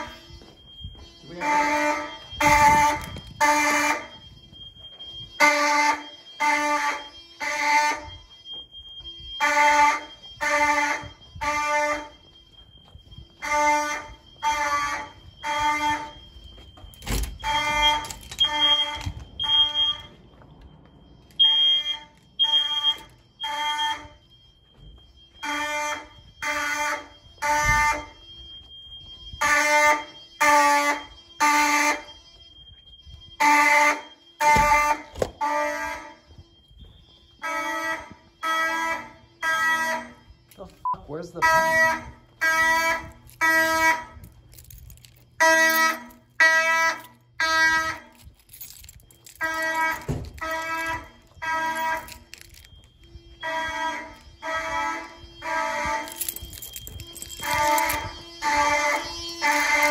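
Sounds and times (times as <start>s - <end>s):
faint steady high tone: 0.0s - 59.9s
fire alarm horns: 0.0s - 59.9s.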